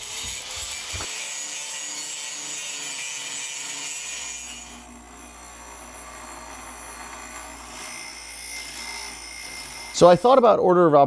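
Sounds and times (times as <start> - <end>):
angle grinder grinding steel: 0.0 - 10.4.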